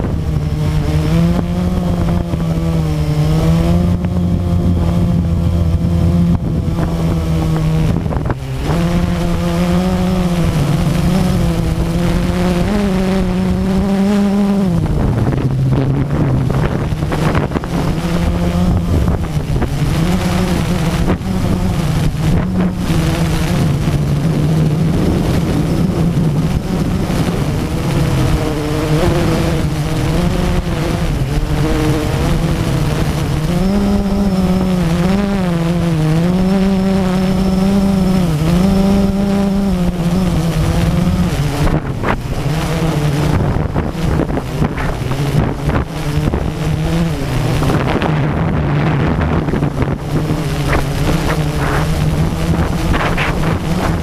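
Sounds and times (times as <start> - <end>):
drone motors buzzing: 0.0 - 54.0.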